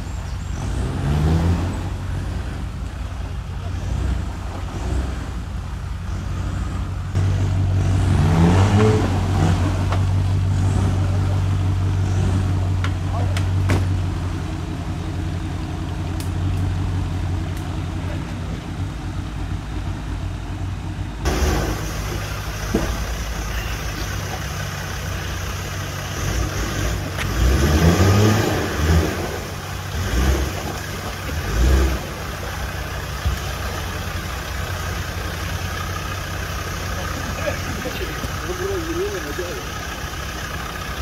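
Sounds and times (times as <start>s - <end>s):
engine running and revving: 0.0s - 41.0s.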